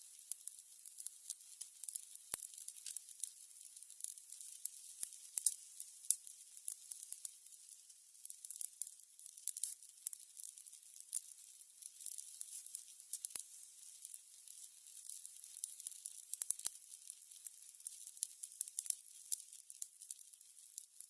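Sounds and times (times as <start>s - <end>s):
candles crackling and hissing: 0.0s - 21.0s.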